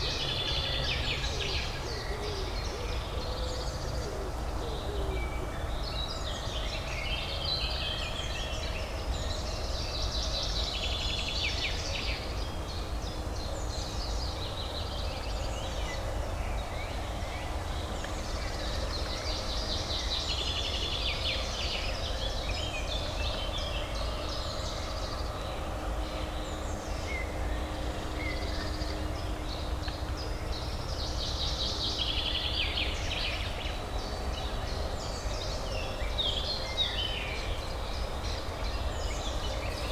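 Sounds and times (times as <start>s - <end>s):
low urban hum: 0.0s - 39.9s.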